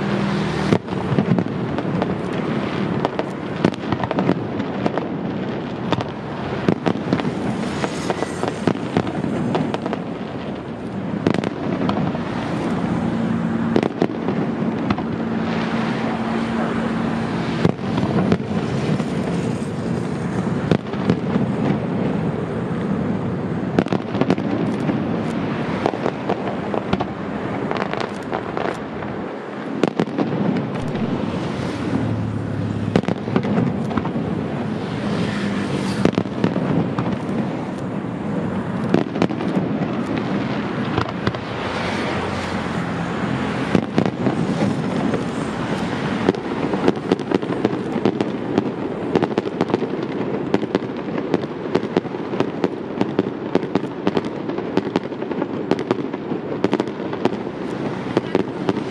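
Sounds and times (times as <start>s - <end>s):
fireworks rumbling and crackling: 0.0s - 58.9s.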